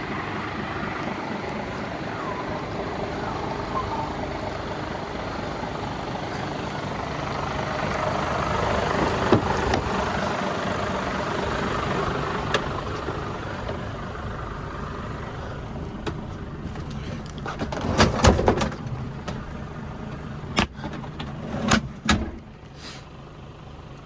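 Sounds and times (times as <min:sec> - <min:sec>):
diesel truck idling: 0:00.0 - 0:24.0.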